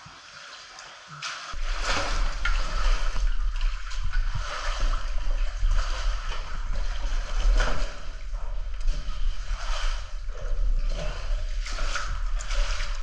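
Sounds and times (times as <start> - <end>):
water splashing and sloshing: 0.0 - 13.0
heavy low rumble: 1.6 - 13.0.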